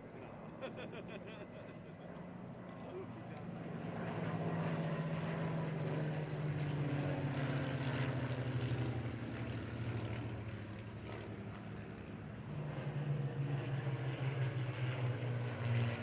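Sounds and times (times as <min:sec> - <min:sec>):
aircraft piston engines droning: 0:00.0 - 0:16.0.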